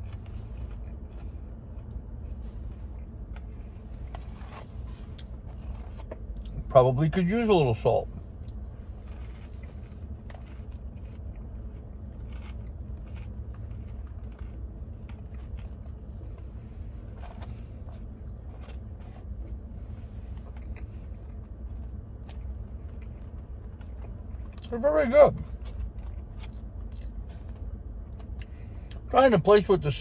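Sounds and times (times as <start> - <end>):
chewing fries: 0.0 - 29.6.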